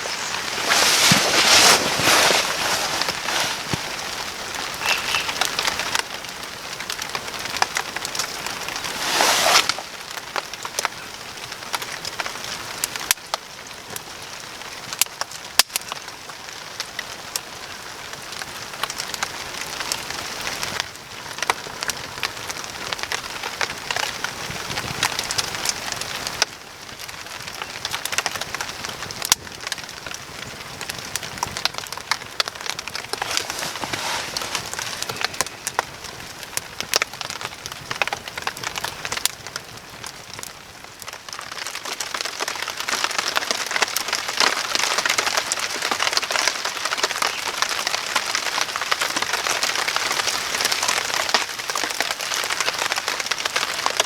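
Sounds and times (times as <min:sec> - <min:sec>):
fire crackling and popping: 0:00.0 - 0:17.6, 0:18.2 - 0:54.0
rain pattering: 0:00.0 - 0:54.0.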